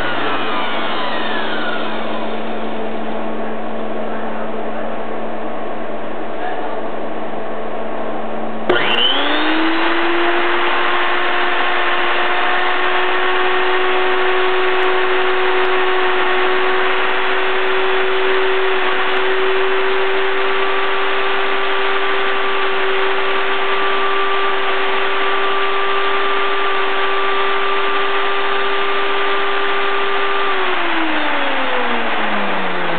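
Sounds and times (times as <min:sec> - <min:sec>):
blender motor whining: 0:00.0 - 0:03.0, 0:08.7 - 0:32.9.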